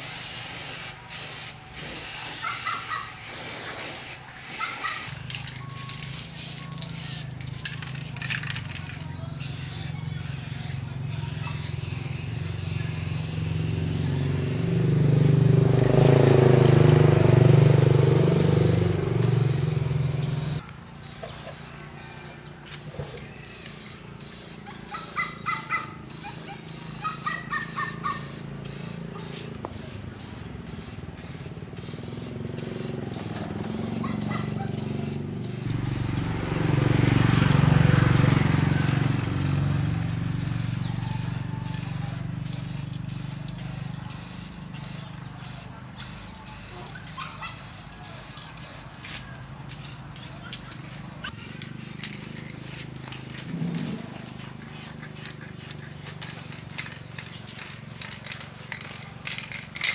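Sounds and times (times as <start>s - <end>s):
spray gun hissing: 0.0s - 7.4s, 9.4s - 48.9s, 51.3s - 56.6s.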